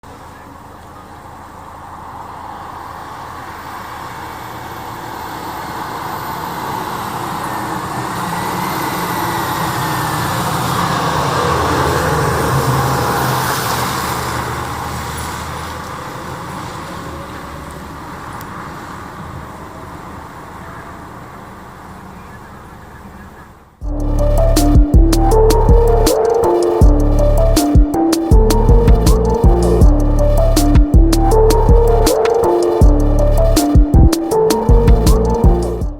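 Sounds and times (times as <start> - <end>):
fire engine driving past: 0.1 - 35.9.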